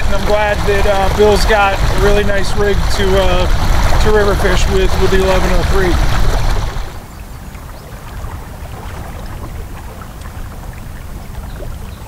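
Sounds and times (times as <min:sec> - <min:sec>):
water lapping splashes: 0:00.0 - 0:12.0
wind rumbling on microphone: 0:00.0 - 0:12.0.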